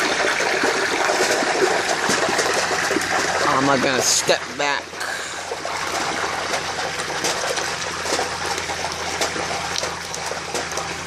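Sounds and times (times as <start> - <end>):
hot oil bubbling and crackling: 0.0 - 11.0.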